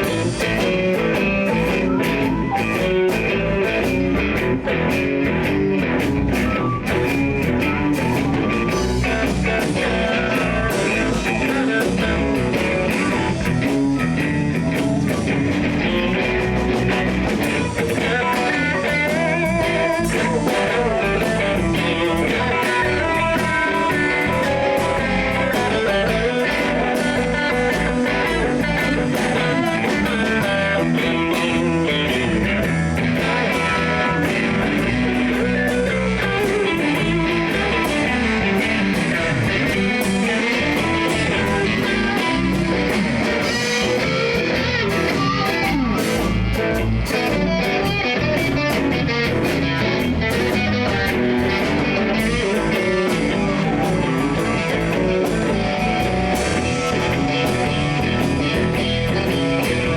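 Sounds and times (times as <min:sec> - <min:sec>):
electric guitar: 0:00.0 - 0:59.9
live blues-rock band: 0:00.0 - 0:59.9.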